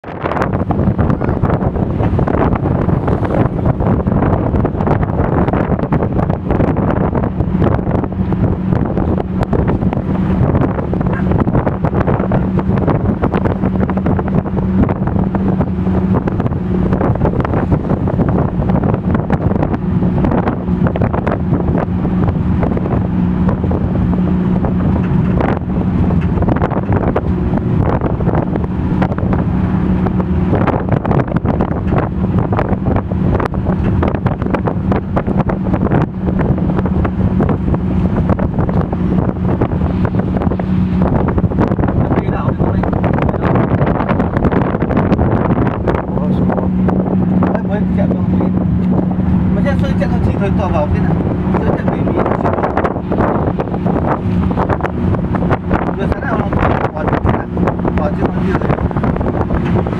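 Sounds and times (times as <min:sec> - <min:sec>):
vehicle engine droning: 0:00.0 - 0:59.9
wind buffeting microphone: 0:00.0 - 0:59.9.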